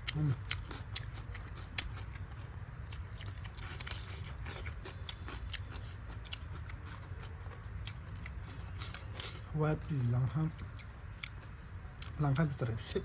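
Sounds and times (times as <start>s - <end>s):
person chewing crunchy food: 0.0s - 12.5s.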